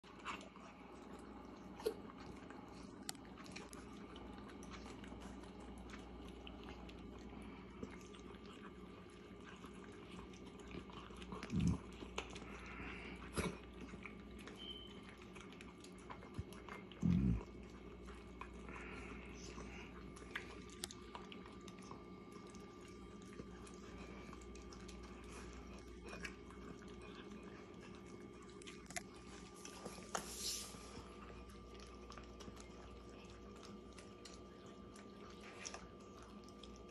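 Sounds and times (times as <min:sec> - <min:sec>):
dogs chewing food: 0:00.0 - 0:36.9.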